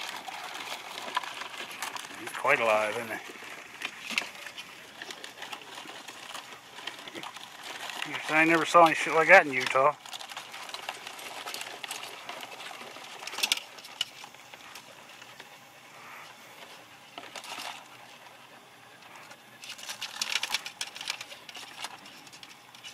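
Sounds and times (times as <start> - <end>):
crab shells clicking and scrabbling: 0.0 - 22.9.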